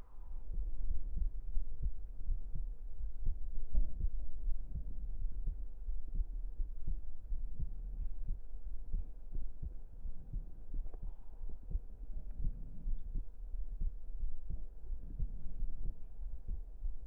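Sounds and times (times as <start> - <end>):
heartbeat thumps: 0.0 - 17.0
steady low rumble: 0.0 - 17.0.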